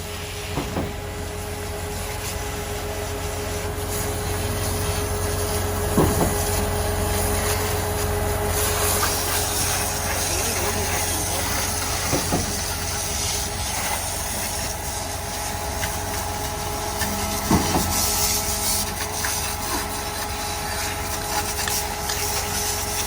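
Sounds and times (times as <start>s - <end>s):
engine running: 0.0s - 23.0s
water spraying hiss: 0.0s - 23.0s.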